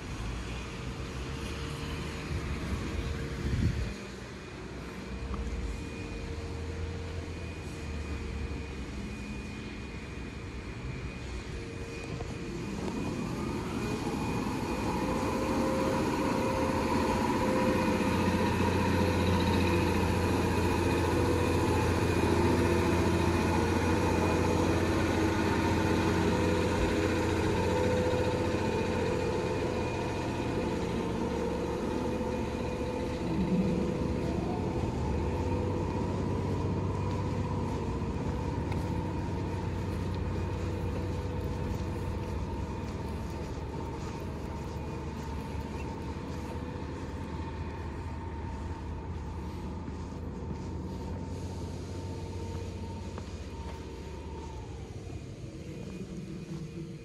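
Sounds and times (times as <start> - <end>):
electric train hum and wheel noise: 0.0 - 57.0.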